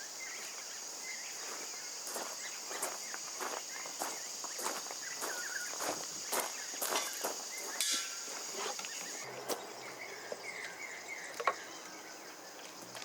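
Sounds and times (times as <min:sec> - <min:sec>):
faint bird chirps: 0:00.0 - 0:12.4
high insect drone: 0:00.0 - 0:13.0.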